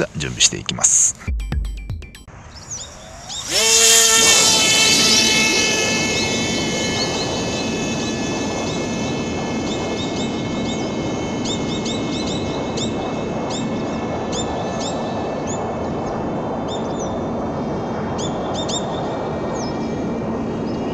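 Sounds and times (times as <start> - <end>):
electric motor and propeller whine: 2.4 - 20.9.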